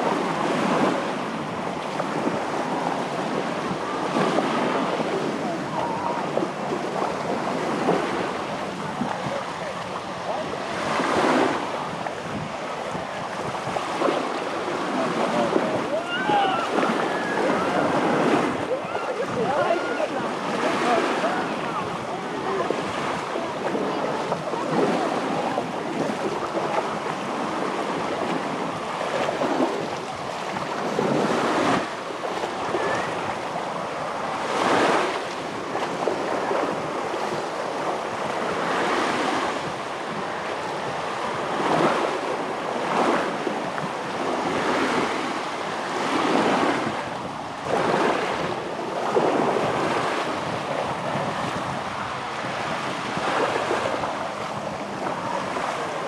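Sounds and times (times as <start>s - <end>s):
surf breaking on a beach: 0.0s - 56.0s
wind noise on microphone: 0.0s - 56.0s.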